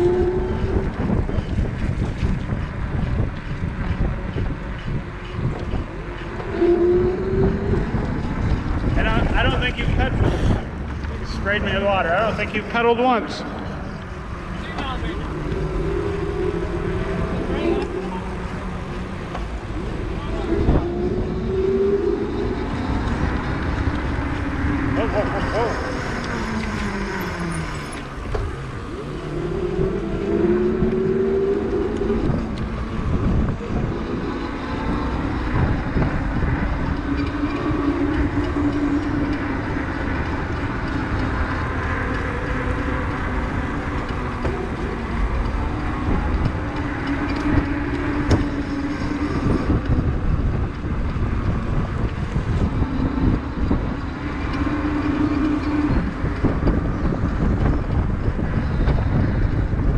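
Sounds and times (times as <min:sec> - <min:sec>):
e-bike tyres on wet pavement: 0:00.0 - 0:59.9
tyre and motor hum: 0:00.0 - 0:59.9
wind rumbling on microphone: 0:00.0 - 0:59.9.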